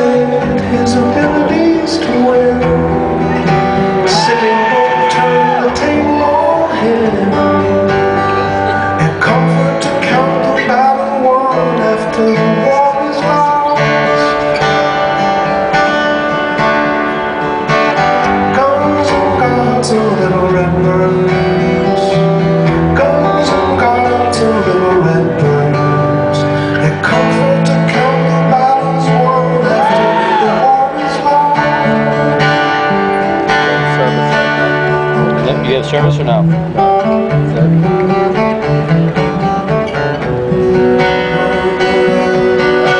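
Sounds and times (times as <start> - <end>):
acoustic guitars strummed and picked: 0.0 - 42.9.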